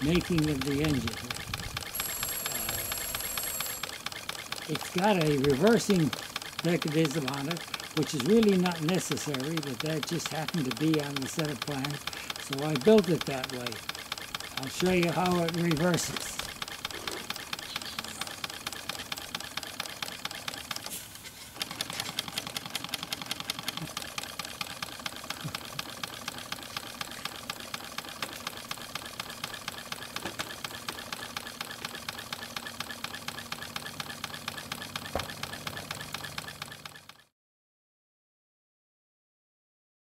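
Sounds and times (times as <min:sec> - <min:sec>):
model steam engine clicking: 0:00.0 - 0:20.9, 0:21.6 - 0:37.3.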